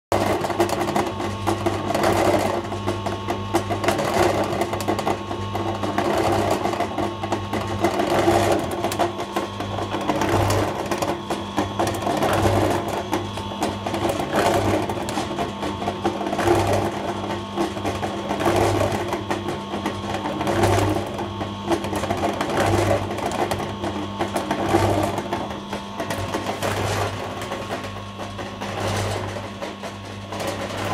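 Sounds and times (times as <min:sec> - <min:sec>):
concrete mixer running: 0:00.1 - 0:30.9.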